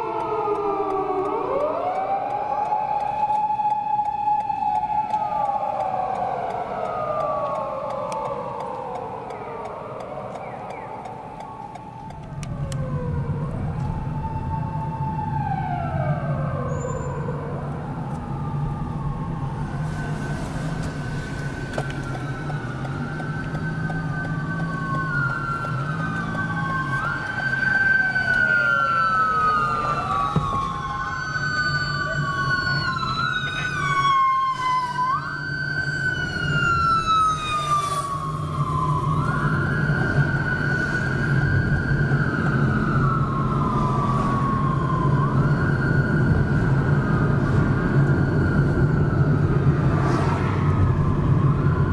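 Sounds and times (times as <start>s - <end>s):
engine and road noise: 0.0s - 51.9s
police siren wailing: 0.0s - 51.9s.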